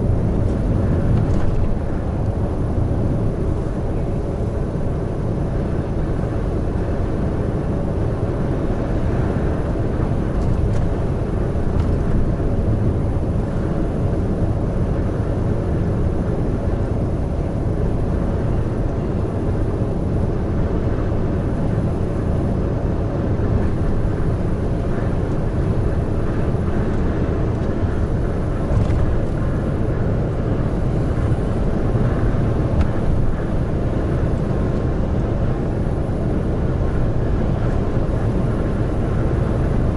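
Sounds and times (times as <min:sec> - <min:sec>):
truck engine drone: 0:00.0 - 0:39.9
tyre and wind noise: 0:00.0 - 0:39.9.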